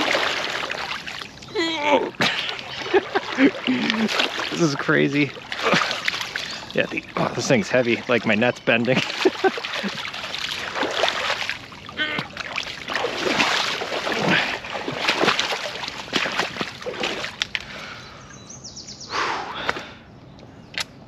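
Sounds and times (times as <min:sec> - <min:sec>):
water splashing and sloshing: 0:00.0 - 0:18.1.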